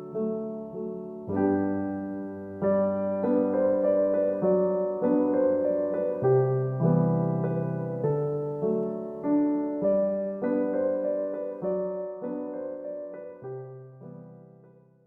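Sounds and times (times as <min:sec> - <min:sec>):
gentle solo piano piece: 0:00.0 - 0:15.0.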